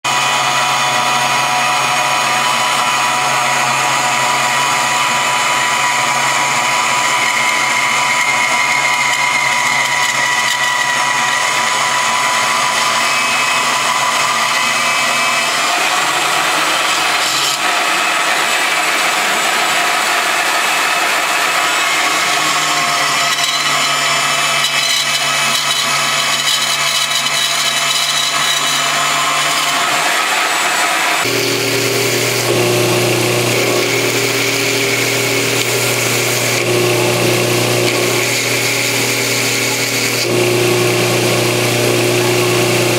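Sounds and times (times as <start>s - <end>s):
power tool running: 0.0s - 42.9s.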